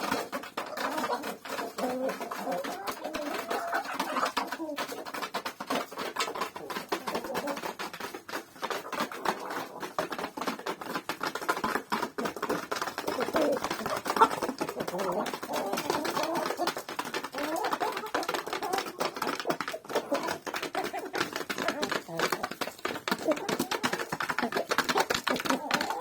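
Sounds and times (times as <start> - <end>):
beaks tapping grain: 0.0 - 26.0
hens clucking: 0.0 - 26.0.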